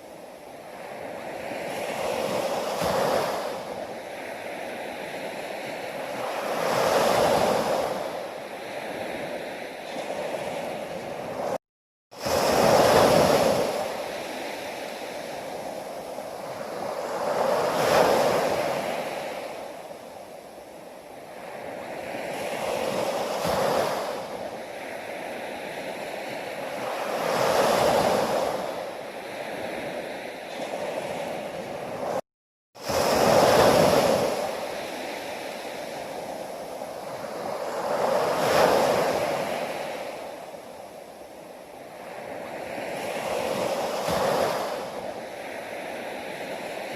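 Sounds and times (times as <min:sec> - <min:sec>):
ocean waves breaking on shore: 0:00.0 - 0:32.2, 0:32.8 - 0:46.9.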